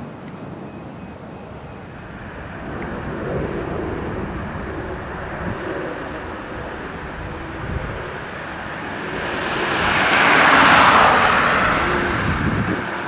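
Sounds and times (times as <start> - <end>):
jet airliner passing: 1.2 - 13.0.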